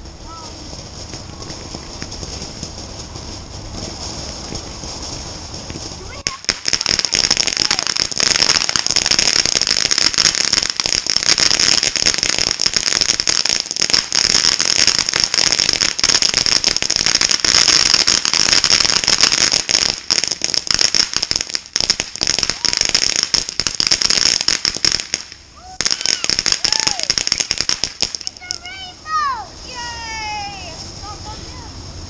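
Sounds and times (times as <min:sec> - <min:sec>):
firework fountain crackling and hissing: 0:00.0 - 0:32.0.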